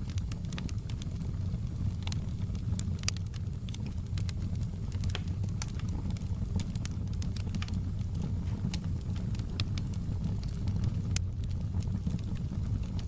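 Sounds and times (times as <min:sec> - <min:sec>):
fire low rumble: 0:00.0 - 0:13.0
wood fire crackling and popping: 0:00.0 - 0:13.0.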